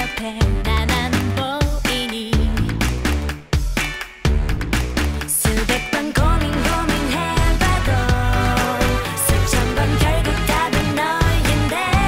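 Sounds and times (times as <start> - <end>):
dance pop music with punchy beat: 0.0 - 12.0.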